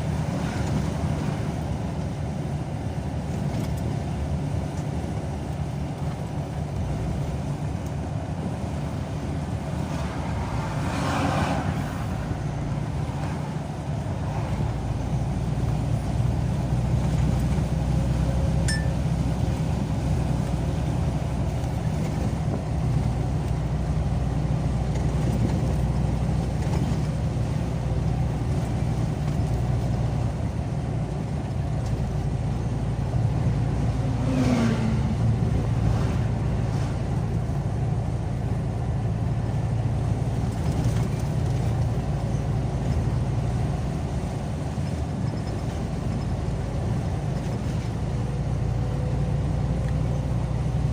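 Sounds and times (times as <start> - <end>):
car engine hum: 0.0 - 50.9
road noise: 0.0 - 50.9.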